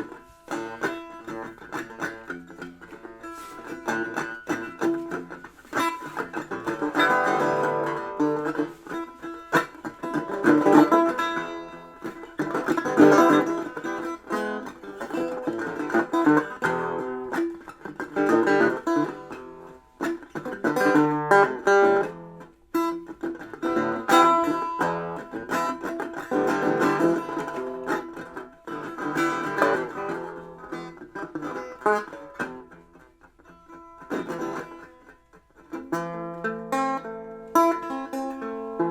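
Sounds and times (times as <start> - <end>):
plucked string instrument: 0.0 - 38.9.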